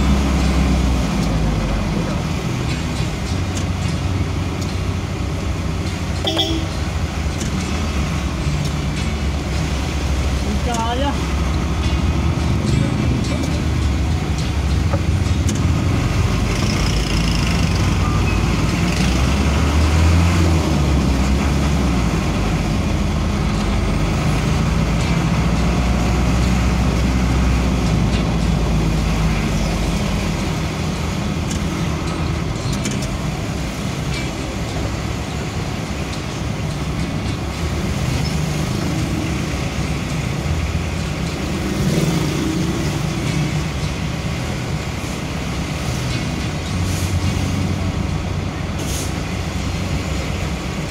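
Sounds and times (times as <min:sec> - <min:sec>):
road noise: 0:00.0 - 0:50.9
vehicle engine humming: 0:00.0 - 0:50.9.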